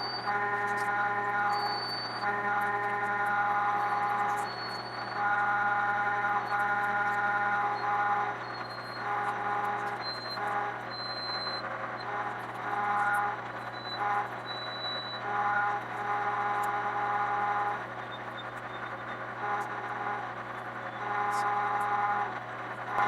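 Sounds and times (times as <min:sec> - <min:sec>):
lathe gear whine: 0:00.0 - 0:23.0.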